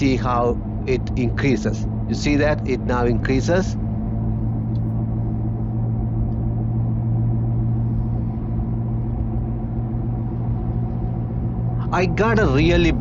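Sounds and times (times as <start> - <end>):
wheel bearing growling drone: 0.0 - 13.0.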